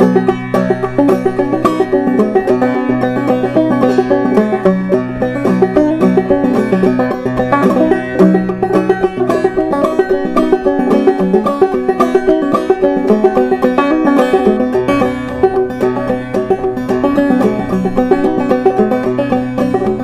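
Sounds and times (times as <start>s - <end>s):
banjo played clawhammer style: 0.0s - 20.0s.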